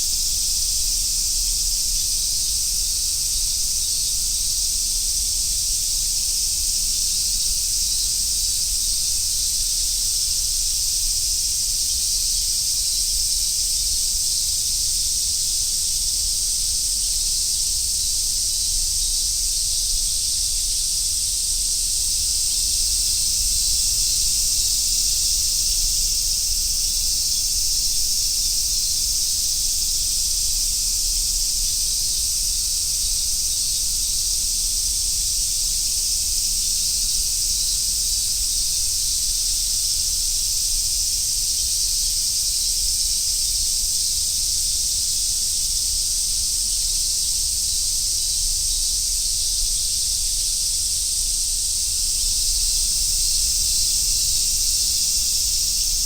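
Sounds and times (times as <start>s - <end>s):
cicadas chorusing: 0.0s - 56.0s.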